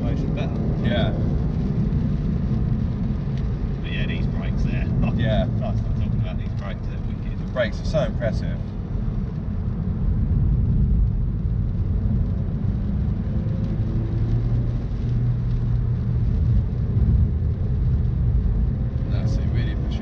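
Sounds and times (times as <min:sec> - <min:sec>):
car engine droning: 0:00.0 - 0:20.0
low road rumble: 0:00.0 - 0:20.0.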